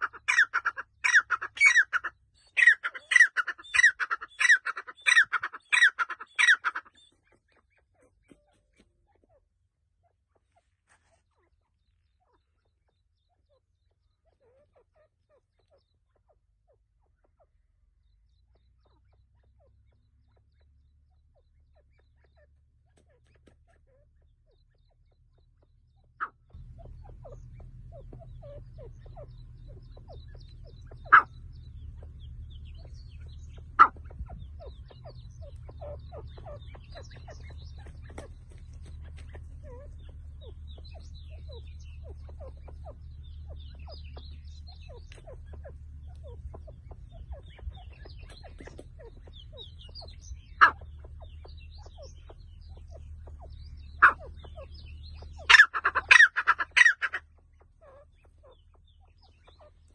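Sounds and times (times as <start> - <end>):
bird chirps: 0.0 - 59.9
partridge calls: 0.0 - 59.9
steady low hum: 11.7 - 59.9.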